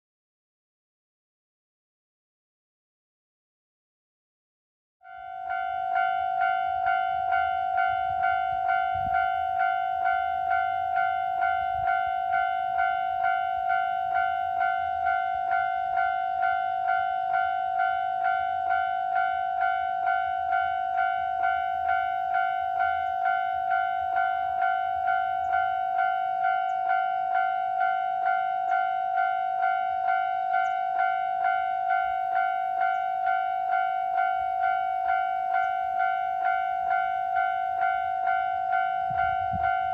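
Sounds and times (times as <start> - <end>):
level crossing warning bell clanging: 5.1 - 39.9
faint low train rumble: 5.2 - 39.9.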